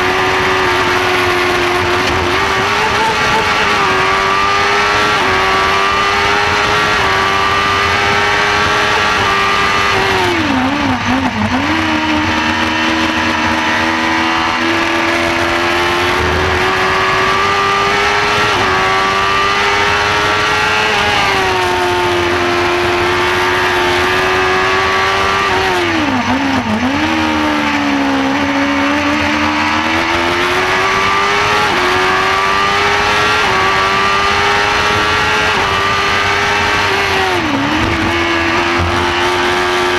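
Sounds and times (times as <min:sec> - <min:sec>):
race car engine at high revs: 0:00.0 - 0:39.9
wind and road rush: 0:00.0 - 0:39.9.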